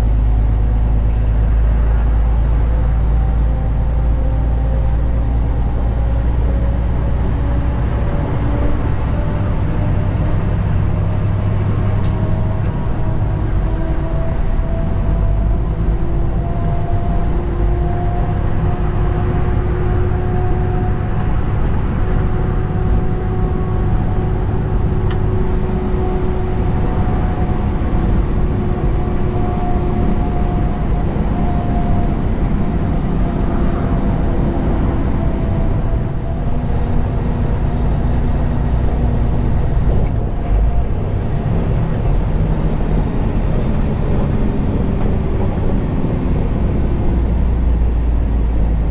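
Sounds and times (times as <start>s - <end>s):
diesel truck engine rumbling: 0.0s - 48.9s.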